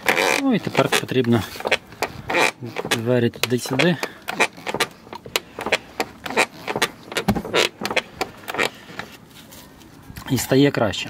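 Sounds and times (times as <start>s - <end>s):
car door strap creaking and clicking: 0.0s - 9.3s.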